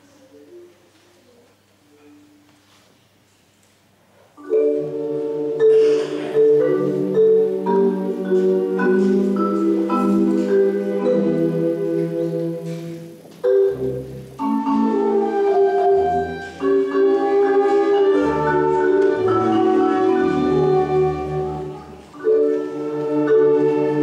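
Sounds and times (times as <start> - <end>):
marimba solo: 4.4 - 24.0
wind band holding chords: 4.4 - 24.0.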